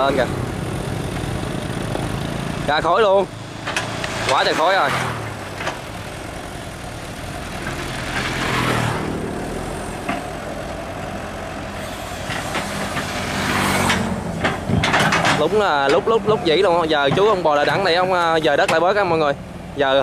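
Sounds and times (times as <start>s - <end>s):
excavator diesel engine running hard: 0.0s - 20.0s.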